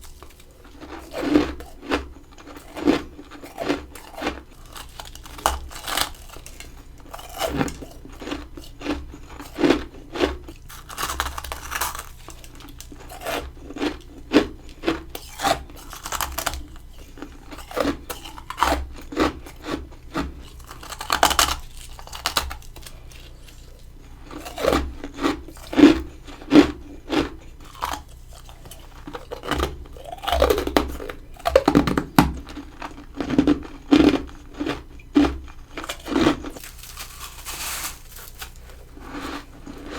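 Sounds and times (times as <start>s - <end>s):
crunching frost: 0.0s - 26.0s, 32.5s - 39.9s.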